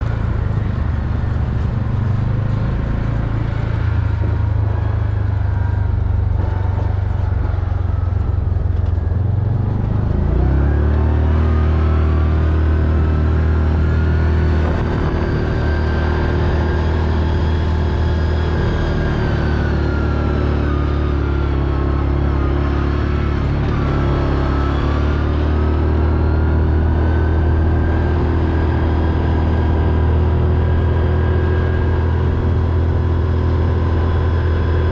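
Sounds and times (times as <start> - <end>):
atv engine droning: 0.0 - 34.9.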